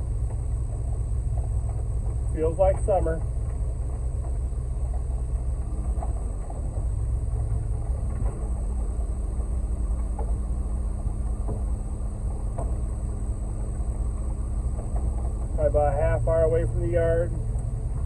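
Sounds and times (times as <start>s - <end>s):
diesel engine rumbling: 0.0s - 18.0s
steady hum: 0.0s - 18.0s.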